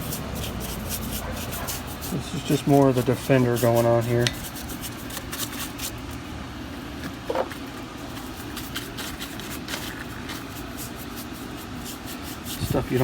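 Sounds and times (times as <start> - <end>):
brush scrubbing rusty metal: 0.0 - 6.3, 7.3 - 13.0.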